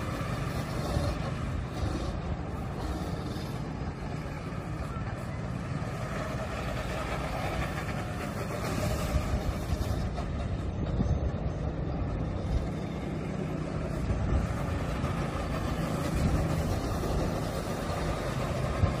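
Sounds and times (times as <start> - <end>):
go-kart engines droning: 0.0 - 19.0.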